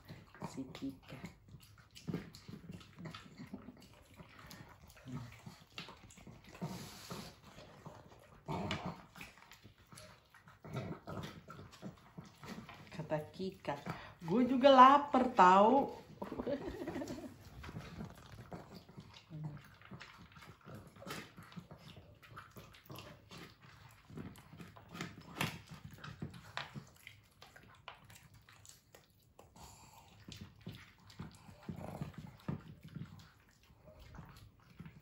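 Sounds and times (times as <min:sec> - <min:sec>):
dogs crunching dry kibble: 0:00.0 - 0:35.0.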